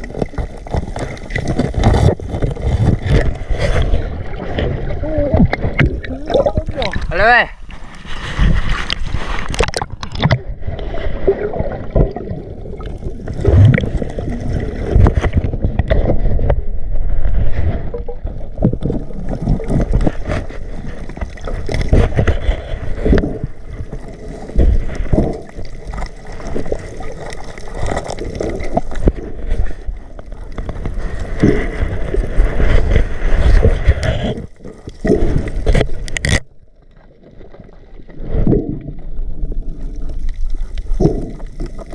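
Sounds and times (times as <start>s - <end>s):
water gurgling and sloshing: 0.0s - 41.9s.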